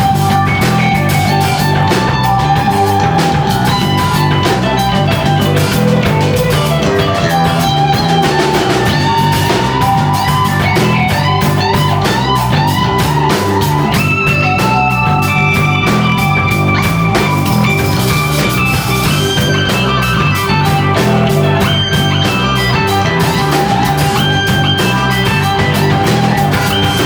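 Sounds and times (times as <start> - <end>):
bass guitar: 0.0 - 27.0
drum kit beat: 0.0 - 27.0
electric guitar lead: 0.0 - 27.0.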